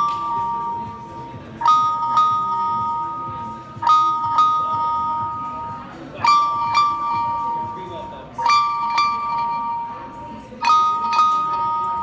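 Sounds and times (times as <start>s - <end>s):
bell-like phone ringtone chime: 0.0s - 12.0s.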